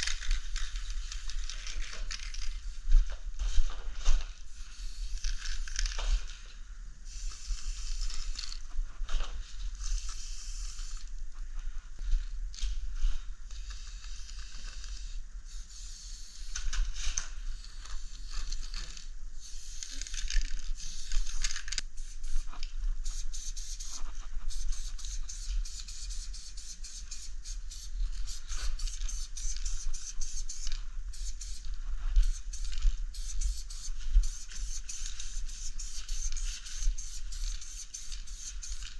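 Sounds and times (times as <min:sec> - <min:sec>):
spray paint can hissing: 0:00.0 - 0:03.6, 0:04.5 - 0:06.2, 0:07.1 - 0:08.6, 0:09.8 - 0:11.1, 0:13.5 - 0:38.9.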